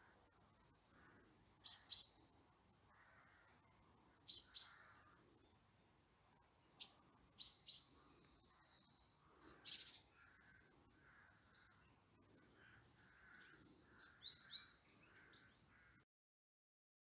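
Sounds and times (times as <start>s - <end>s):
birds chirping: 0.0s - 5.6s, 6.4s - 16.0s.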